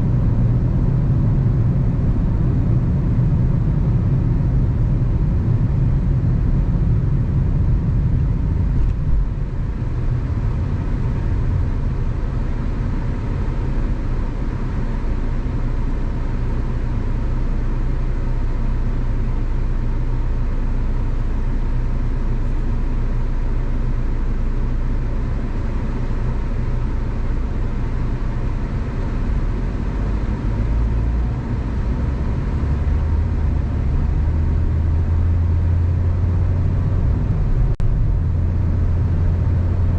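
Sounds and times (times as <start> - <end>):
car engine and tyre rumble: 0.0 - 39.9
low hum: 0.0 - 39.9.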